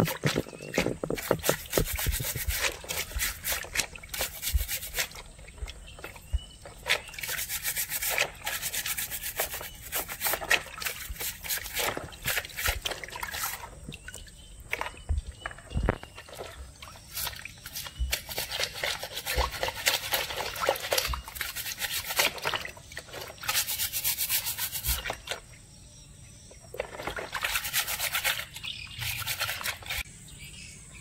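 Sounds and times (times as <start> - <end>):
scouring pad scrubbing shells: 0.0 - 13.8, 17.0 - 25.3, 26.8 - 30.0
water sloshing: 0.0 - 25.6, 26.6 - 30.1.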